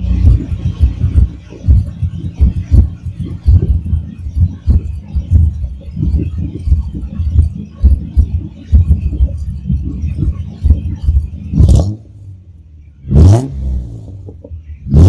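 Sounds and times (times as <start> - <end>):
light mechanical rattles: 0.0 - 12.7
car engine pulsing exhaust: 0.0 - 15.0.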